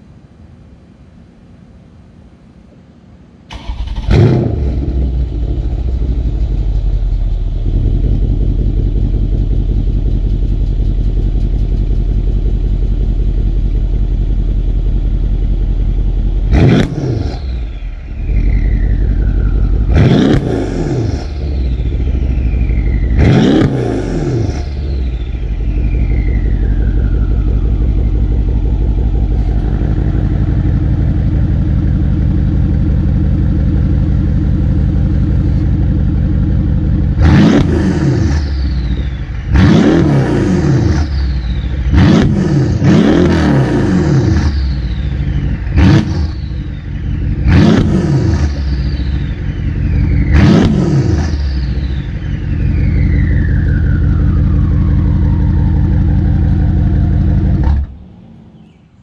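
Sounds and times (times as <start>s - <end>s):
car engine idling and revving: 3.5s - 59.0s.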